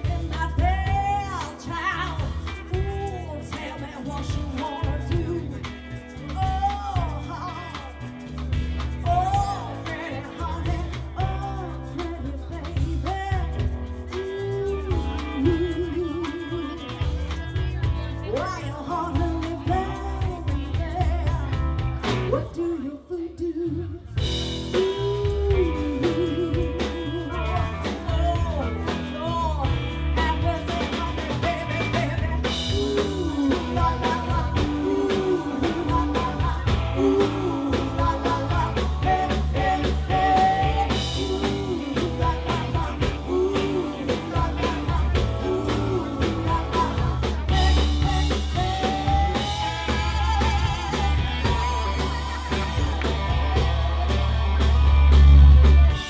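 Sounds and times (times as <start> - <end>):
rhythm and blues band playing: 0.0 - 56.0
woman singing: 0.0 - 56.0.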